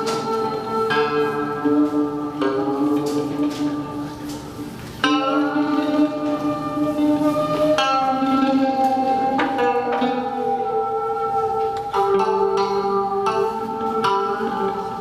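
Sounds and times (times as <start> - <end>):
plucked zither notes: 0.0 - 15.0.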